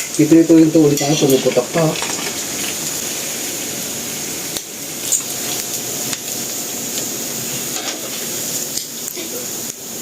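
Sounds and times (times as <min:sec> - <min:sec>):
meat deep-frying in oil: 0:00.0 - 0:10.0.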